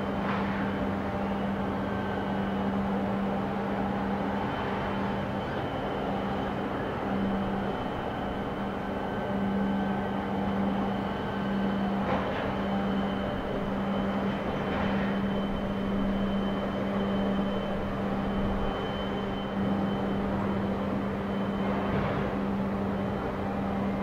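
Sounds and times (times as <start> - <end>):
faint high whine: 0.0 - 24.0
machinery drone and rumble: 0.0 - 24.0.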